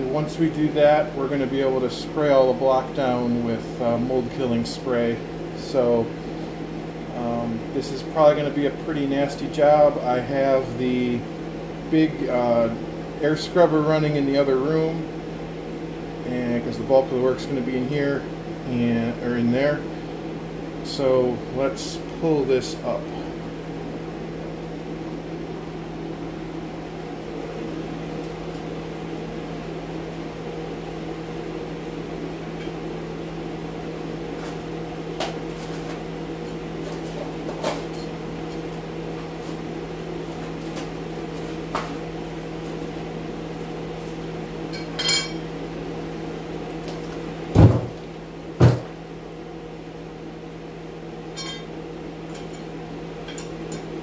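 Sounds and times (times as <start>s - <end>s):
air scrubber humming: 0.0s - 54.0s.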